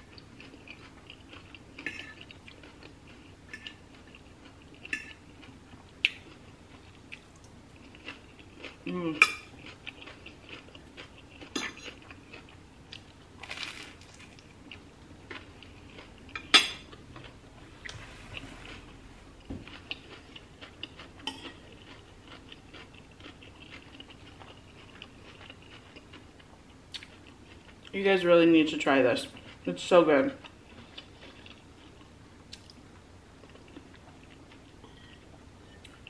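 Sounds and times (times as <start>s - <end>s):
chewing with small crunches: 0.0s - 28.0s, 29.2s - 36.0s.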